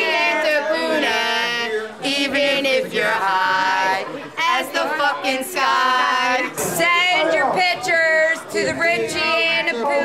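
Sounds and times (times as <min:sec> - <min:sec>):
people singing together: 0:00.0 - 0:10.0.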